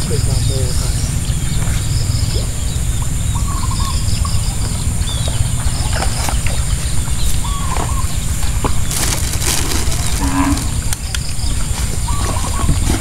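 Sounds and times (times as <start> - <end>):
steady high-pitched drone: 0.0 - 12.8
birds chirping: 0.0 - 13.0
wind rumbling on microphone: 0.0 - 13.0.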